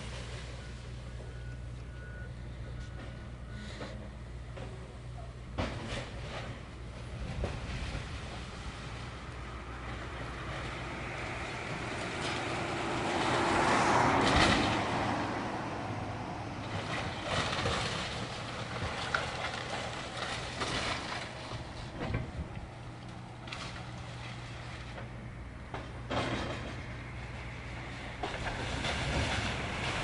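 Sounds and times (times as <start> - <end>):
heavy machinery engine drone: 0.0 - 30.0.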